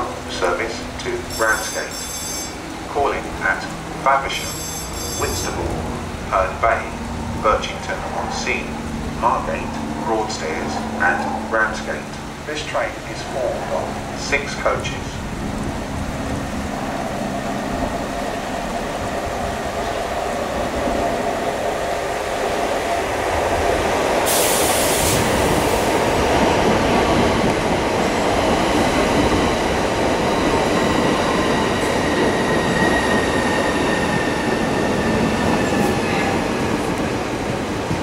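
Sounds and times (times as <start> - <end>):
electric train wheels on rail: 0.0 - 38.0.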